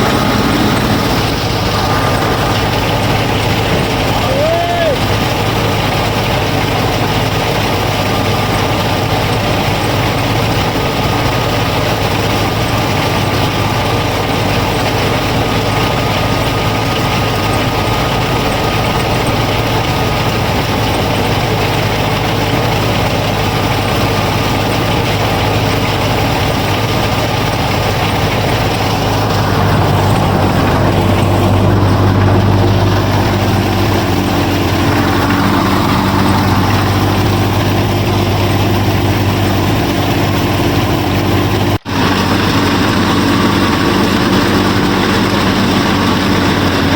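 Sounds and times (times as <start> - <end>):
small motor running: 0.0 - 46.9.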